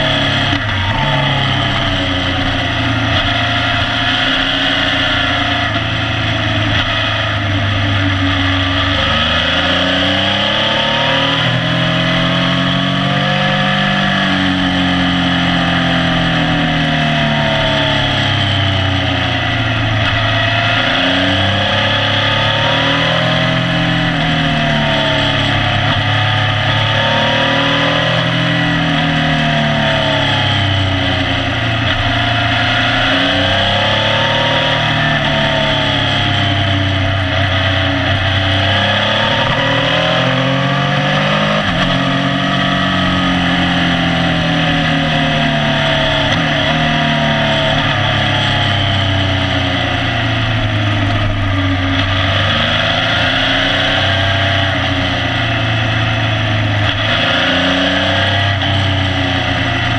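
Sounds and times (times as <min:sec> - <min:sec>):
motorcycle engine accelerating: 0:00.0 - 0:59.9
wind and road noise: 0:00.0 - 0:59.9.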